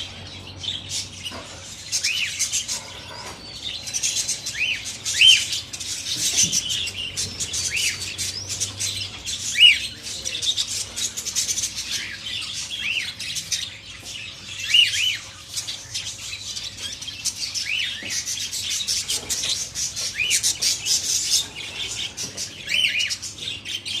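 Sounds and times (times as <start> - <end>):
lovebirds chirping and twittering: 0.0 - 24.0
sharp bird calls: 0.0 - 24.0.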